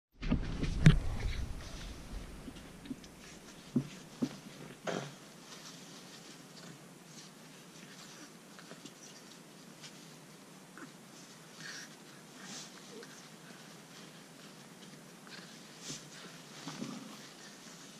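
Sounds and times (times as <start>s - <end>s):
puppies scuffling and rustling: 0.2s - 17.9s.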